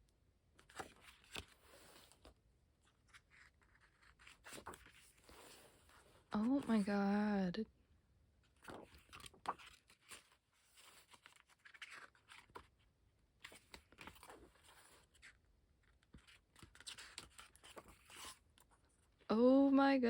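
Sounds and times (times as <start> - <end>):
pages rustling and turning: 0.6 - 7.0, 8.4 - 18.9.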